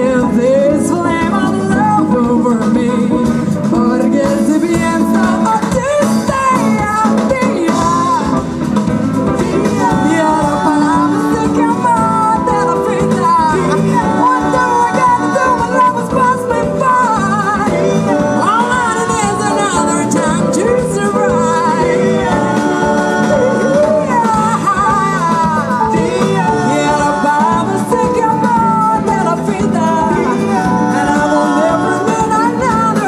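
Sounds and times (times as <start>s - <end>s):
live band playing dance song: 0.0s - 33.0s
person singing: 0.0s - 33.0s.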